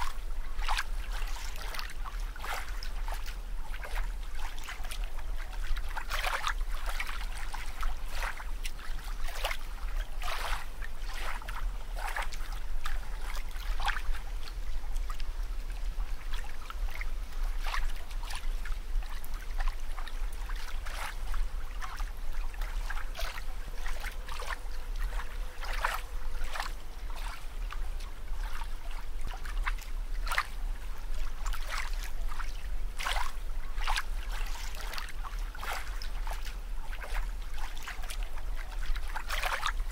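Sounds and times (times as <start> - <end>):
steady low hum: 0.0 - 39.9
water bubbling and trickling: 0.0 - 39.9.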